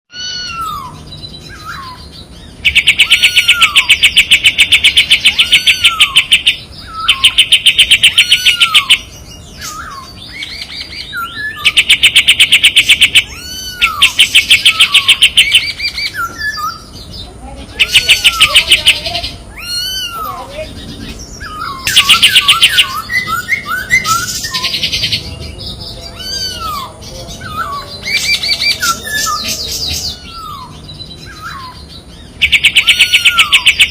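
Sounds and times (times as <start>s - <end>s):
descending whistled bird notes: 0.1s - 33.9s
songbird rattling trills: 0.2s - 33.9s.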